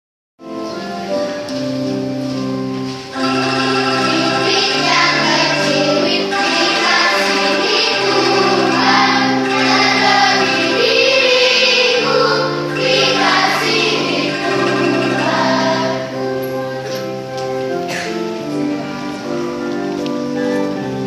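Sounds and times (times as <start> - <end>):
children's choir singing: 2.9 - 21.0.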